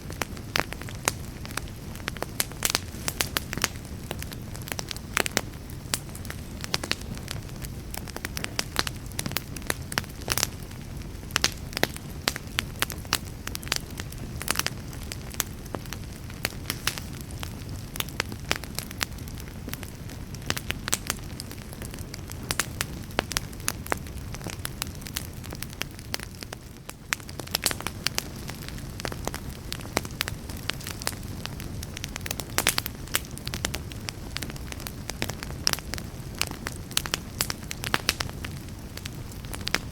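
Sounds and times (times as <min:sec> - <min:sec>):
fire pops and snaps: 0:00.0 - 0:39.9
low rumble of flames: 0:00.0 - 0:39.9
wood fire crackling: 0:00.0 - 0:39.9.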